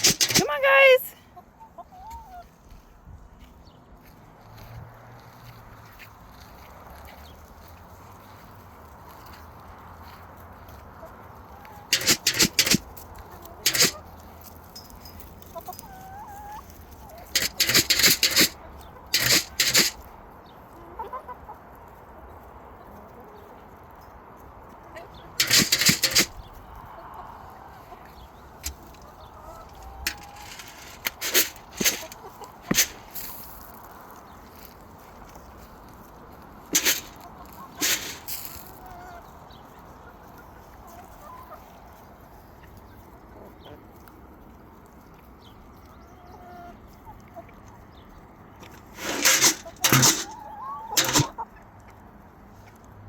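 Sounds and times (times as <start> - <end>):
chickens clucking: 0.0 - 2.9, 5.2 - 23.8, 24.7 - 52.8.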